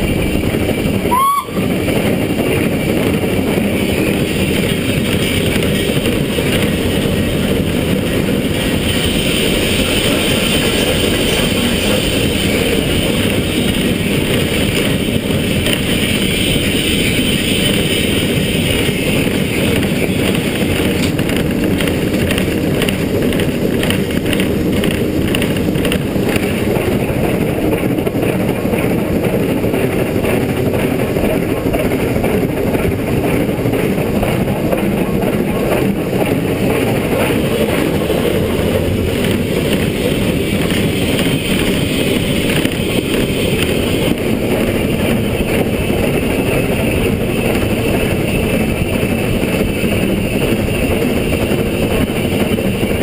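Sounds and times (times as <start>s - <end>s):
locomotive running noise: 0.0s - 53.0s
steam locomotive exhaust beats: 0.0s - 53.0s.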